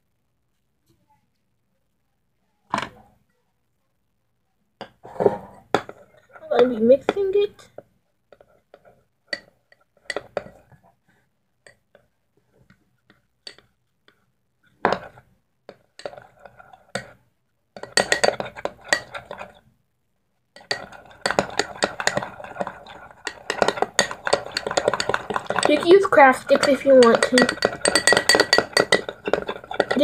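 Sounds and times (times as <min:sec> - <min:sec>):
spoon stirring in glass bowl: 0:05.0 - 0:19.6, 0:20.6 - 0:30.0.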